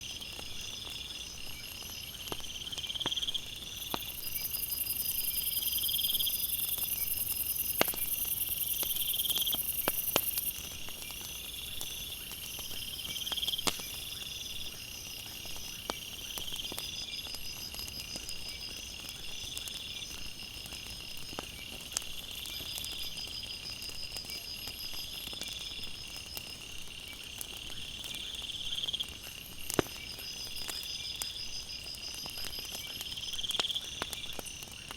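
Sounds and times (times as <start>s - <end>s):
crickets chirping: 0.0s - 34.8s
wood fire crackling: 0.0s - 34.9s.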